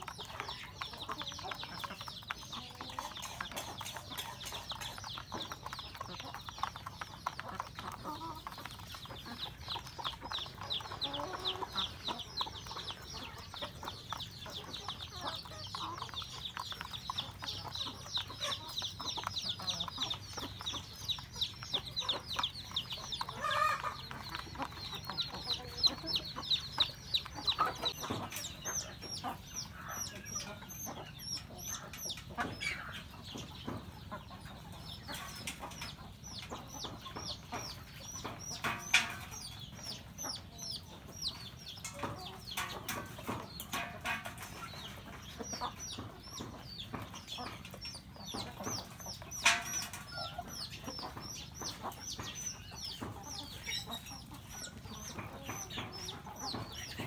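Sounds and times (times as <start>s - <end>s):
chickens clucking: 0.0s - 57.0s
sharp chirps and knocks: 0.0s - 57.0s.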